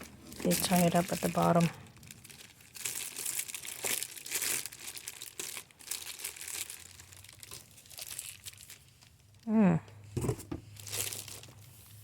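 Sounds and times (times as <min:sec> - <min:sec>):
packaging crinkling: 0:00.0 - 0:09.4, 0:10.6 - 0:12.0.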